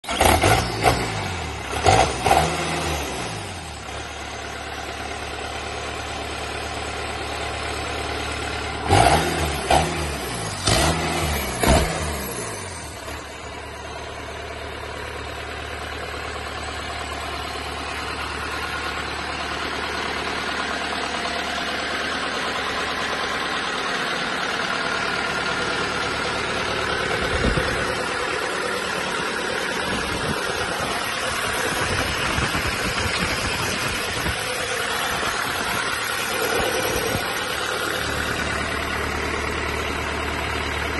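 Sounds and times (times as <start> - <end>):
diesel engine revving and idling: 0.0 - 40.9.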